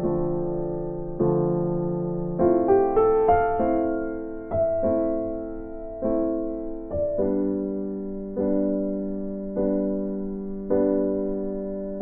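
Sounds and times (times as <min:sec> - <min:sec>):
slow electric piano: 0:00.0 - 0:12.0.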